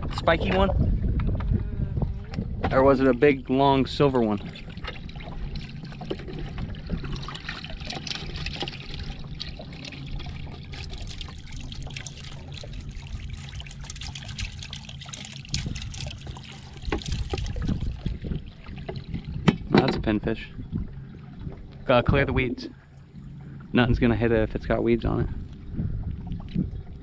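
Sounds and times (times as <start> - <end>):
water splashing and trickling: 2.1 - 27.0.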